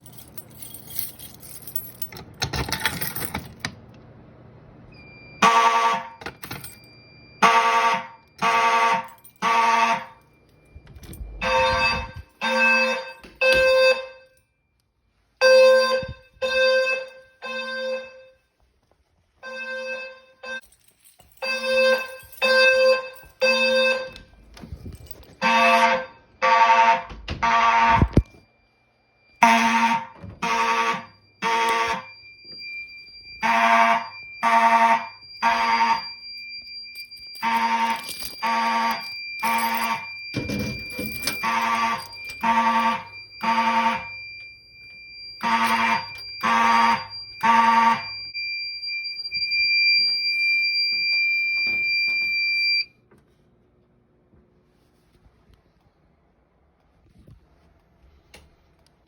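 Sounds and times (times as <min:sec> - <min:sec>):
fire alarm horns: 0:04.9 - 0:52.9.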